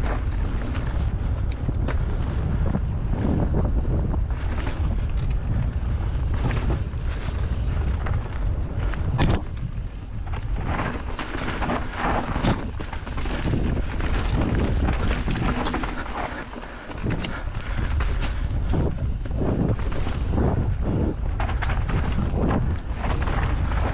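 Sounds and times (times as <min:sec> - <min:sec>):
bike rattling over stony ground: 0:00.0 - 0:23.9
wind rumble on microphone: 0:00.0 - 0:23.9.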